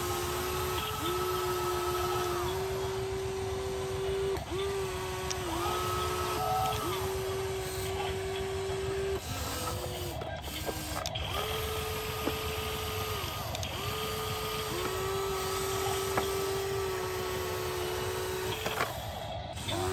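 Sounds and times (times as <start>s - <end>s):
small electric motors whining: 0.0s - 19.9s.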